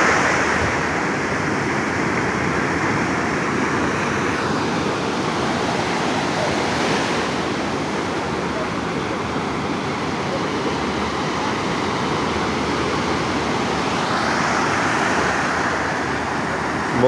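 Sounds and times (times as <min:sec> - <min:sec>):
stormy surf breaking on beach: 0:00.0 - 0:17.0.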